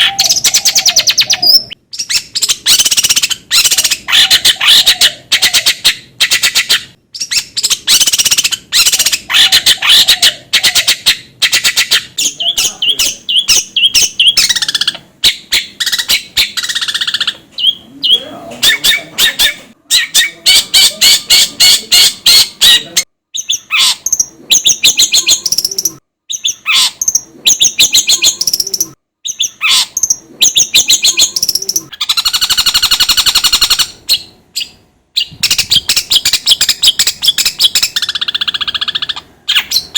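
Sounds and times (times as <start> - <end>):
harsh buzzy bird trill: 0.0 - 39.9
shrike chirping and chattering: 0.0 - 39.9.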